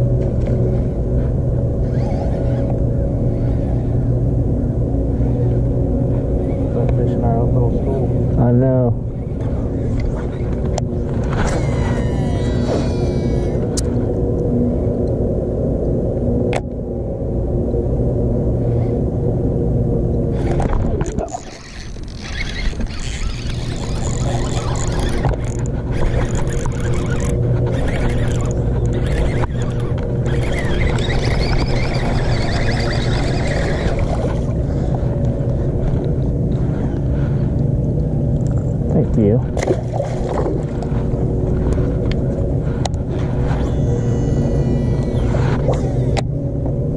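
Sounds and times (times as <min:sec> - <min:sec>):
fishing reel clicking whir: 0:00.0 - 0:08.5, 0:09.1 - 0:15.2, 0:20.1 - 0:46.8
boat motor running: 0:00.0 - 0:46.9
low hum: 0:00.0 - 0:46.9.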